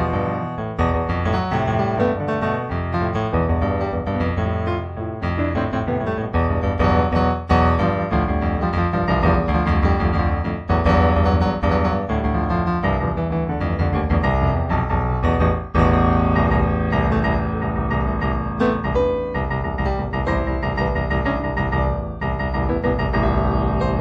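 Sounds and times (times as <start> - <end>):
solo piano music: 0.0 - 24.0.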